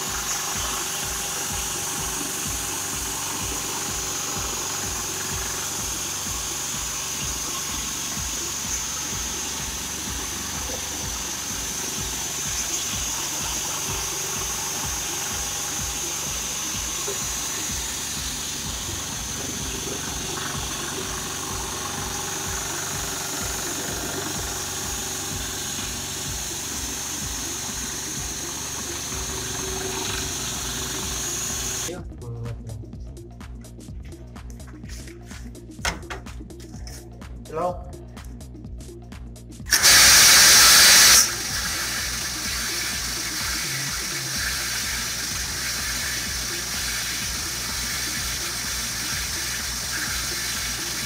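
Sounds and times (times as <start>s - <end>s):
pressure washer spray hiss: 0.0s - 31.9s, 39.7s - 51.0s
pump running with low pulsing: 0.0s - 51.0s.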